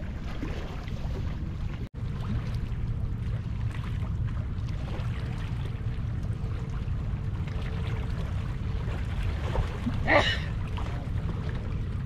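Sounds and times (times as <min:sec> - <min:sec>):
water splashing and trickling: 0:00.0 - 0:12.0
wind rumbling on microphone: 0:00.0 - 0:12.0.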